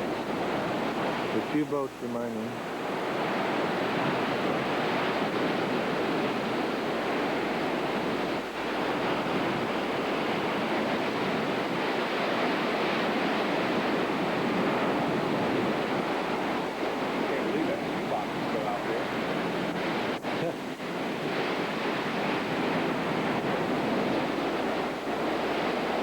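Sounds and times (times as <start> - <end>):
heavy surf: 0.0 - 26.0
hurricane wind: 0.0 - 26.0
wind buffeting microphone: 0.0 - 26.0.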